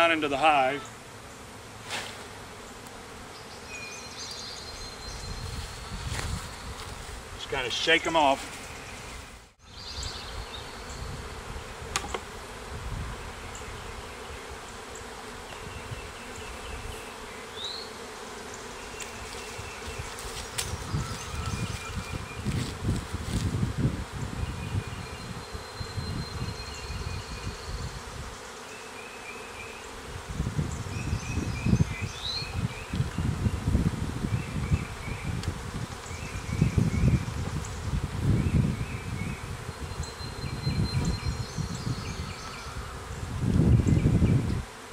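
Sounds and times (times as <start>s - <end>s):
bees buzzing: 0.0s - 44.9s.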